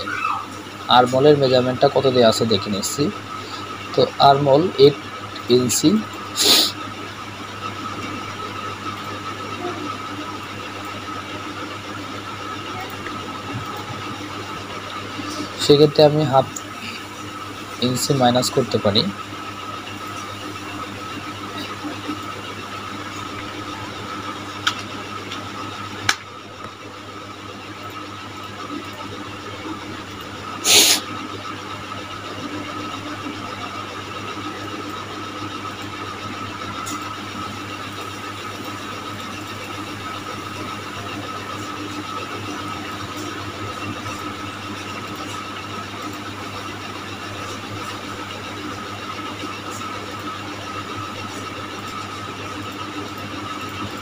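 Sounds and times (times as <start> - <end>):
background hum and hiss: 0.0 - 54.0
faint constant whine: 0.0 - 54.0.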